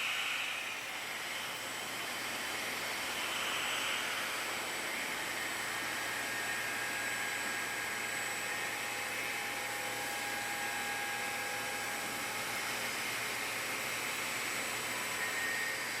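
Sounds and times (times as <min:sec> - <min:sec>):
faint machine whine: 0:00.0 - 0:16.0.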